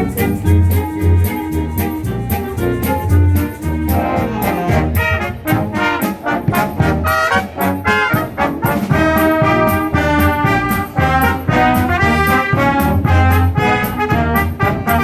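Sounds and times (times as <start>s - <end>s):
brass chords: 0.0s - 15.0s
percussion beat: 0.0s - 15.0s.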